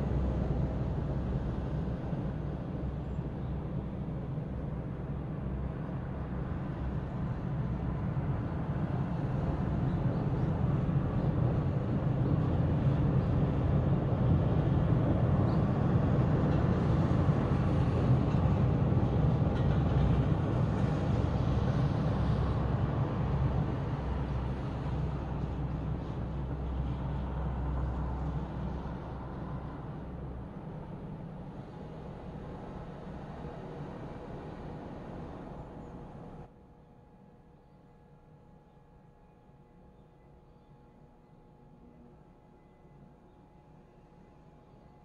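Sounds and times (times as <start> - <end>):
distant city traffic rumble: 0.0 - 36.5.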